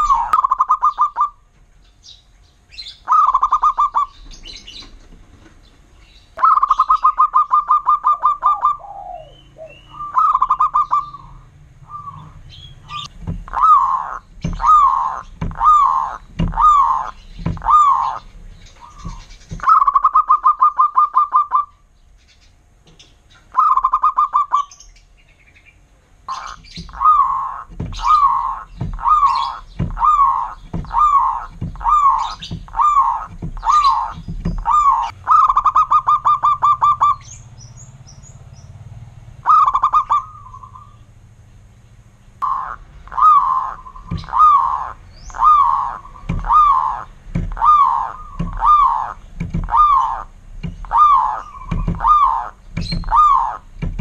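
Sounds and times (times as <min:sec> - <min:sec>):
dove cooing trills: 0:00.0 - 0:01.5, 0:02.1 - 0:05.2, 0:06.2 - 0:21.9, 0:23.3 - 0:25.0, 0:26.2 - 0:37.9, 0:39.4 - 0:41.2, 0:42.4 - 0:54.0
high bird chirps: 0:00.0 - 0:05.0, 0:06.0 - 0:38.8, 0:39.4 - 0:41.1, 0:42.3 - 0:53.7.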